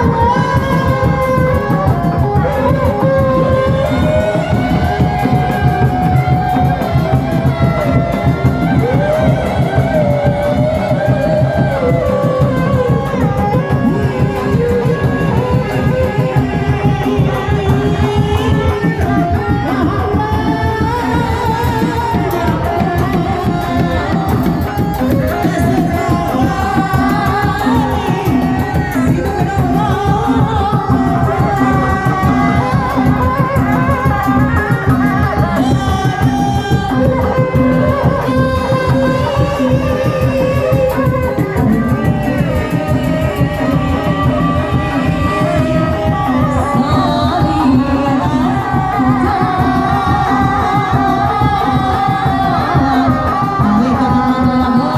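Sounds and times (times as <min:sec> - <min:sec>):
fast drumming: 0:00.0 - 0:54.9
person singing: 0:00.0 - 0:54.9.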